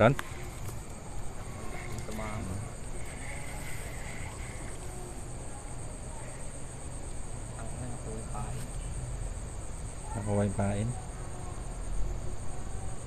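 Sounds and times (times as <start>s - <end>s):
crickets chirping: 0.0s - 13.0s
low background noise: 0.0s - 13.0s.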